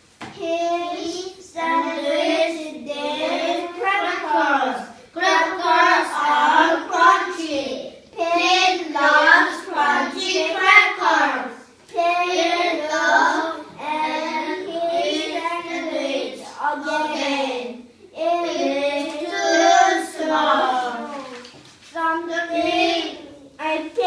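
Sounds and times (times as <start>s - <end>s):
child singing: 0.4s - 21.4s.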